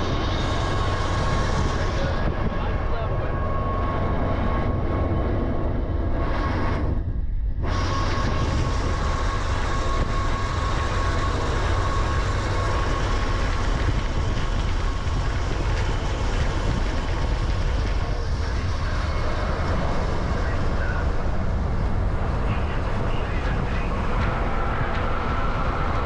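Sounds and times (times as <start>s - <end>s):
thin steady whine: 0.0s - 26.0s
train wheels rumbling on rails: 0.0s - 26.0s.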